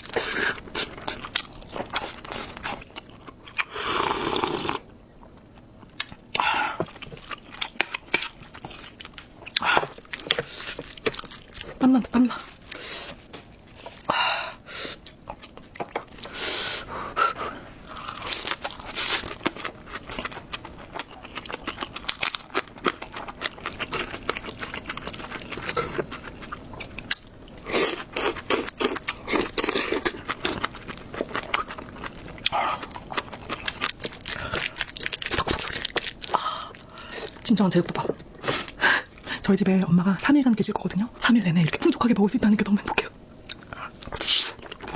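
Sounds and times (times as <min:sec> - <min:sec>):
chewing and crunching food: 0:00.0 - 0:03.7, 0:04.3 - 0:39.4, 0:42.6 - 0:44.9.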